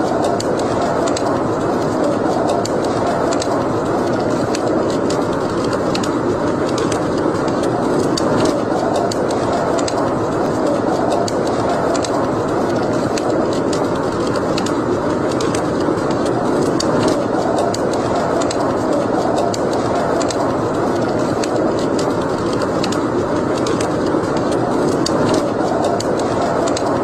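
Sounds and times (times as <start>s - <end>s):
fire crackling and popping: 0.0s - 27.0s
fire rushing noise: 0.0s - 27.0s.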